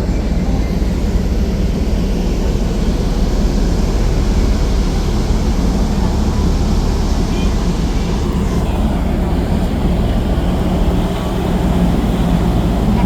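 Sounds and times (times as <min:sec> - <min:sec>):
ship engines rumbling: 0:00.0 - 0:13.0.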